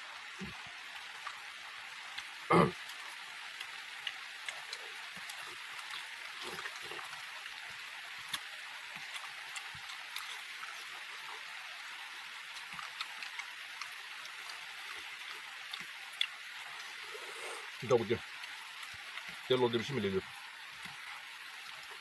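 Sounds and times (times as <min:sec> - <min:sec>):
steady hiss: 0:00.0 - 0:22.0
soft chewing: 0:00.4 - 0:11.6, 0:12.4 - 0:19.5.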